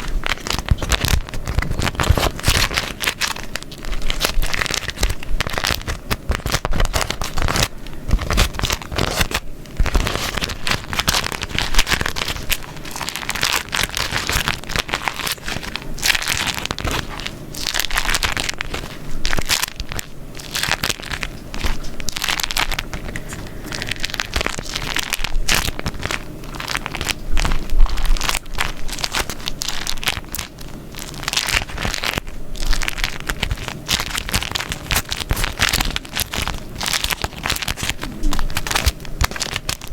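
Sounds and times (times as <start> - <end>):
wax wrap crumpling and crinkling: 0.0 - 39.9.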